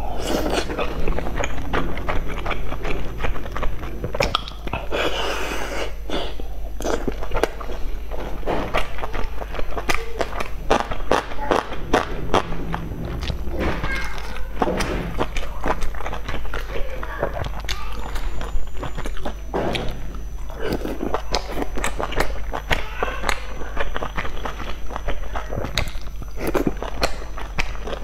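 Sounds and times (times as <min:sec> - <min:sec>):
steady low hum: 0:00.0 - 0:28.0
wet chewing mouth clicks: 0:00.2 - 0:12.1, 0:15.2 - 0:28.0.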